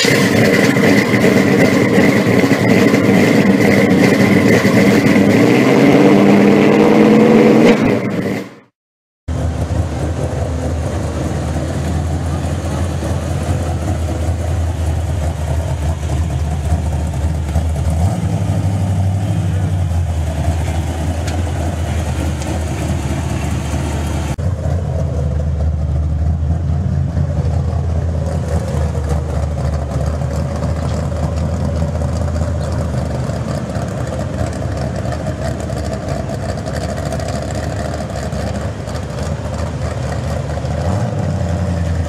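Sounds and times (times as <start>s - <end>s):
car engine idling: 0.0s - 5.4s, 9.3s - 42.0s.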